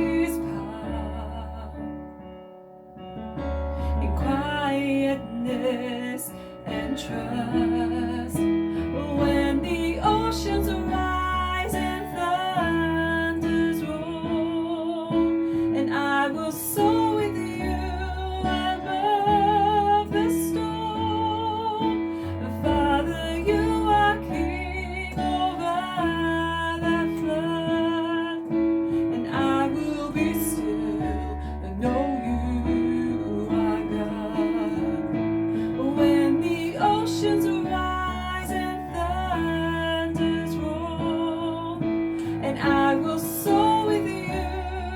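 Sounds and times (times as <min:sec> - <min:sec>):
person singing: 0:00.0 - 0:02.2, 0:03.8 - 0:44.9.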